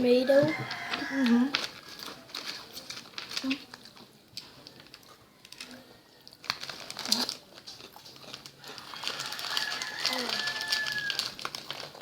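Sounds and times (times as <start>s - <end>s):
plastic snack packet crinkling: 0.6s - 12.0s.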